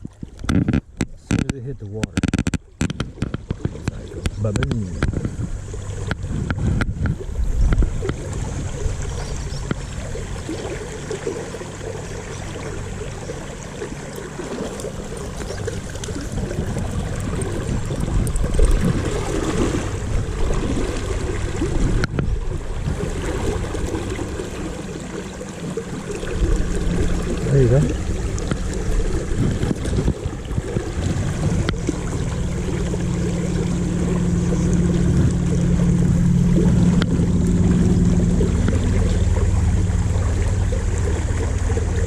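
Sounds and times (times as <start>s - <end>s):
river water rushing and splashing: 0.0s - 42.0s.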